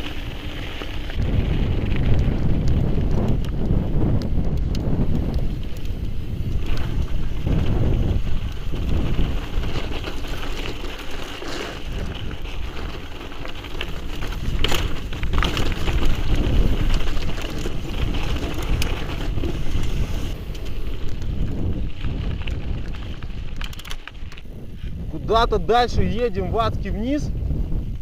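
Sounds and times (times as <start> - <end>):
tyres rolling on dirt and rock: 0.0 - 27.2
wind buffeting microphone: 0.0 - 28.0.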